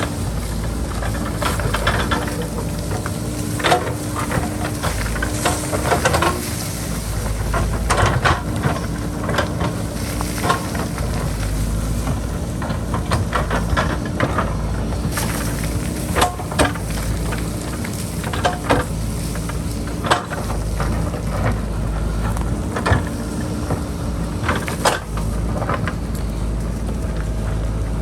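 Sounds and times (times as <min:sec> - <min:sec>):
bucket scraping soil: 0:00.0 - 0:26.5
diesel engine running: 0:00.0 - 0:28.0.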